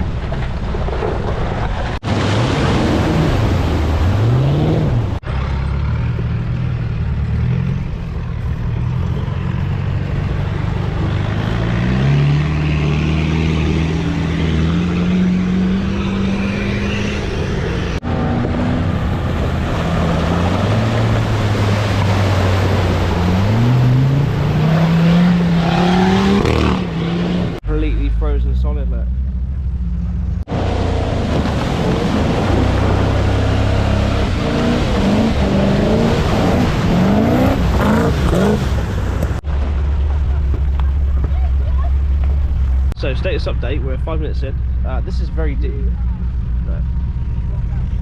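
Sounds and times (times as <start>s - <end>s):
off-road engines revving: 0.9s - 48.0s.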